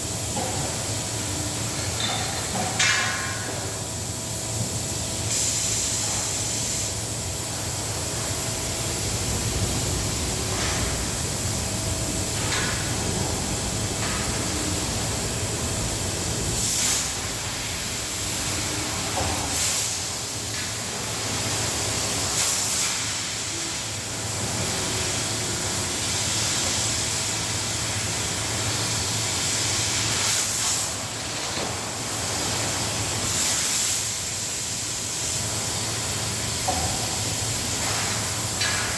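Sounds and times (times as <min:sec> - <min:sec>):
cutting machine hiss and hum: 0:00.0 - 0:38.9.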